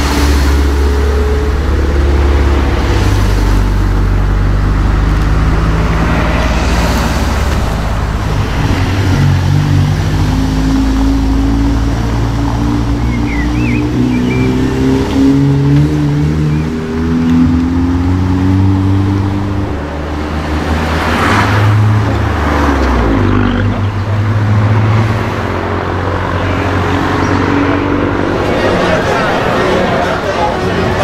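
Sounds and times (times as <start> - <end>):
car engines revving and driving past: 0.0 - 31.0.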